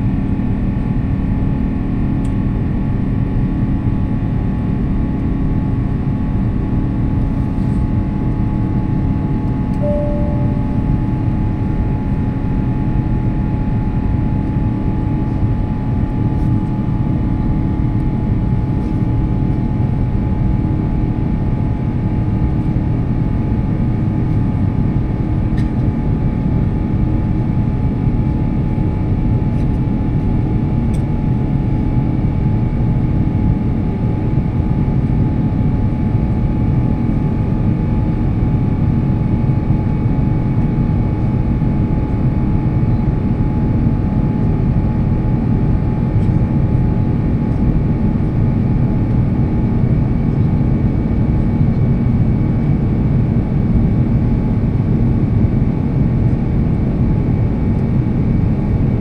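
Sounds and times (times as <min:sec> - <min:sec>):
aircraft cabin engine rumble: 0:00.0 - 0:59.0
jet engine whine: 0:00.0 - 0:59.0.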